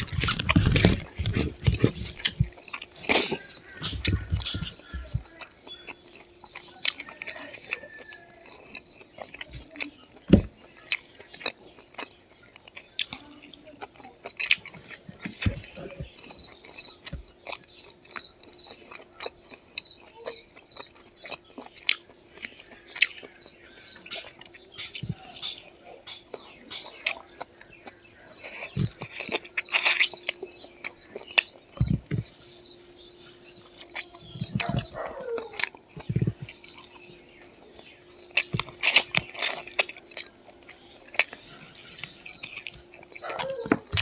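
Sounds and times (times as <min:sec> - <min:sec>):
faint steady hum: 0:00.0 - 0:44.0
person chewing with wet smacks: 0:00.0 - 0:44.0.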